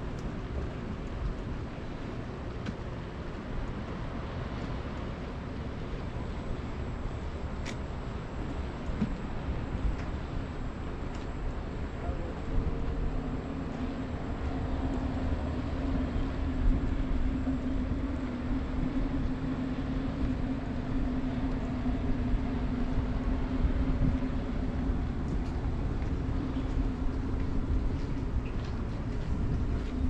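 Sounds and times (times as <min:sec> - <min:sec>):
mechanical hum over low rumble: 0:00.0 - 0:30.0.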